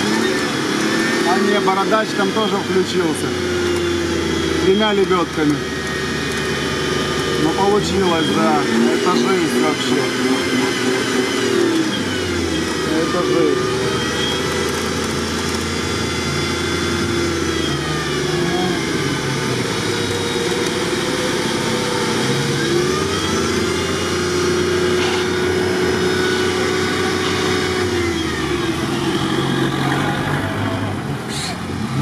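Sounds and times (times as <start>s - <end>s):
off-road vehicle engines revving: 0.0s - 32.0s.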